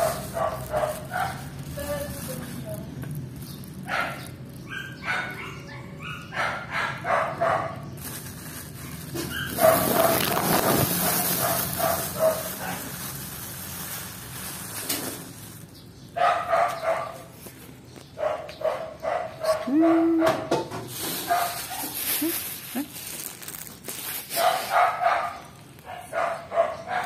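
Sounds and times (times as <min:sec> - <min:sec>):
plastic bag crinkling: 0:00.0 - 0:06.1, 0:07.4 - 0:18.0, 0:20.8 - 0:27.0.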